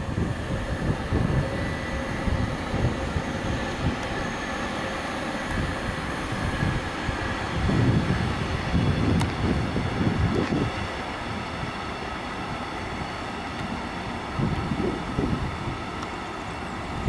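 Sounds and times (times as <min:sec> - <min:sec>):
faint high whine: 0:00.0 - 0:17.0
train rumbling on rails: 0:00.0 - 0:17.0.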